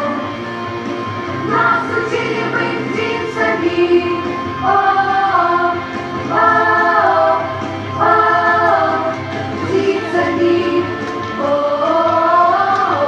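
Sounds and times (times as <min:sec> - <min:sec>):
choir singing held notes: 0:01.4 - 0:13.0.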